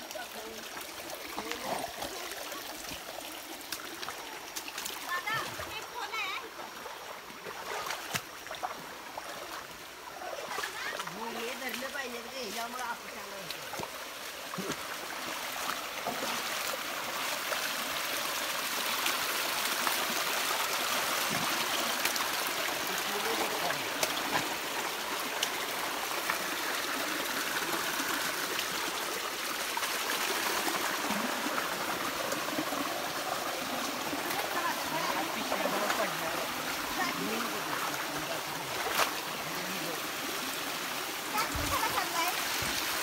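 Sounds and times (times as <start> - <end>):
stream running over stones: 0.0 - 43.0.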